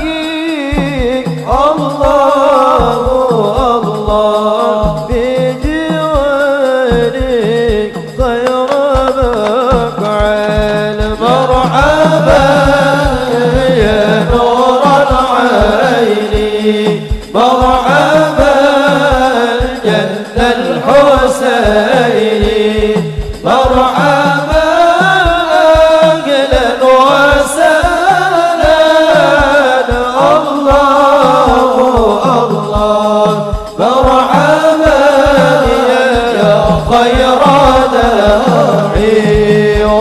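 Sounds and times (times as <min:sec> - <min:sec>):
frame drums beating: 0:00.0 - 0:40.0
men singing into microphones: 0:00.0 - 0:40.0.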